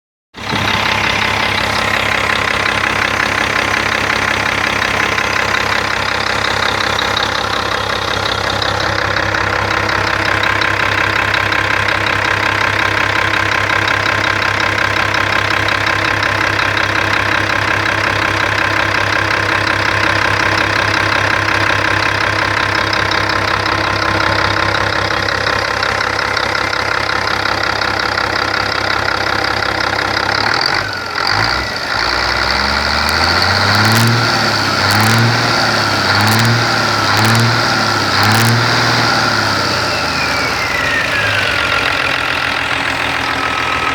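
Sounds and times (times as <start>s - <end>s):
diesel truck engine idling: 0.3s - 43.9s.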